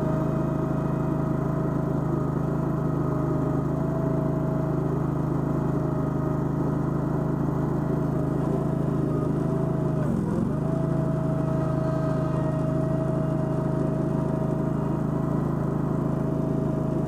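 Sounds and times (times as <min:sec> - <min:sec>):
small gasoline engine running: 0:00.0 - 0:17.0
thin steady whine: 0:00.0 - 0:17.0.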